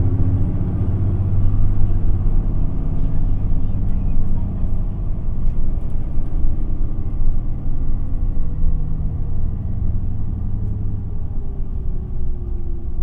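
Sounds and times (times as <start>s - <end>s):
bus diesel engine: 0.0s - 13.0s
road rumble: 0.0s - 13.0s.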